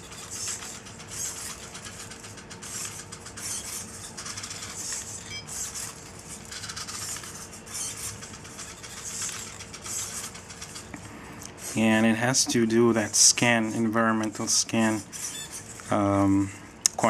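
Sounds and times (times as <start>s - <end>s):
servo motors whirring in bursts: 0.0s - 16.4s.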